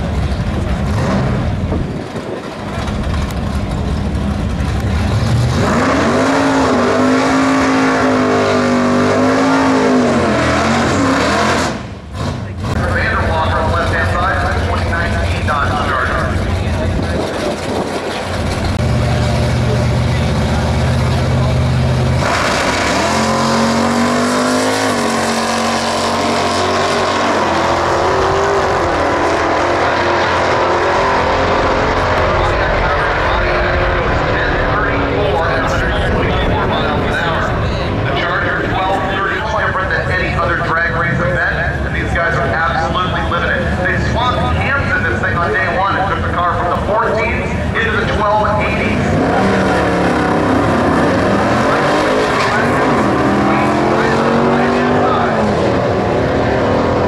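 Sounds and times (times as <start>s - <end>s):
drag car engine revving: 0.0s - 57.0s.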